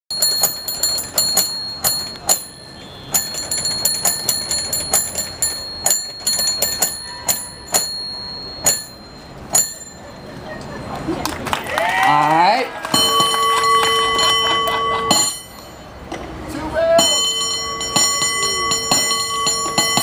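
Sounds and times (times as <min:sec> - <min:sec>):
cable car bell ringing: 0:00.1 - 0:10.9, 0:12.8 - 0:16.1, 0:16.9 - 0:20.0.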